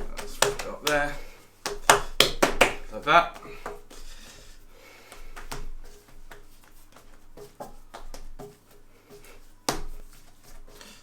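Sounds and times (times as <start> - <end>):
hands slapping dough: 0.0 - 11.0.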